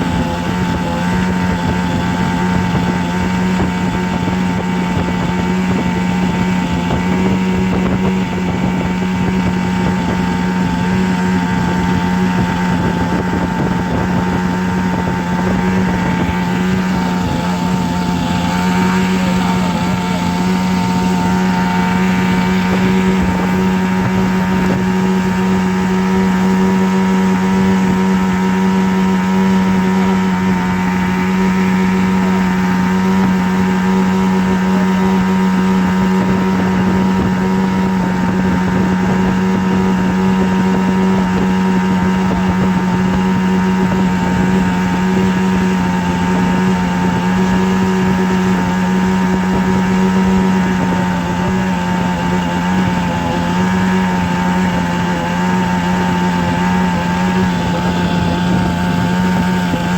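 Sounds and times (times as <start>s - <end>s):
mechanical drone with buzzing hum: 0.0s - 59.9s.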